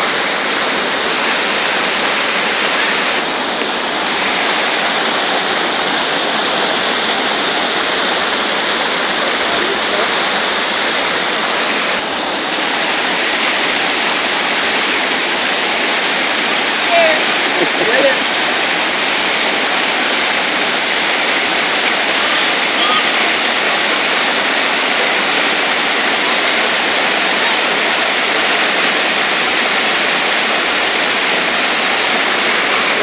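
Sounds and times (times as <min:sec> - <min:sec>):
waterfall rushing over rocks: 0:00.0 - 0:33.0.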